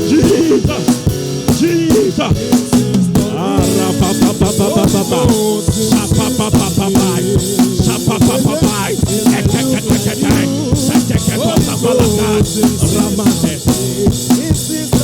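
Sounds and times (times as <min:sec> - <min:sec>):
drum kit beat: 0:00.0 - 0:15.0
voices singing: 0:00.0 - 0:15.0.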